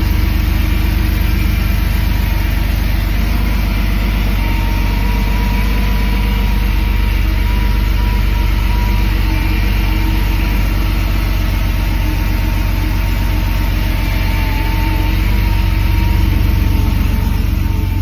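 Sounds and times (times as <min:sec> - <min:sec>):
car engine idling: 0:00.0 - 0:18.0
faint steady whine: 0:00.0 - 0:18.0.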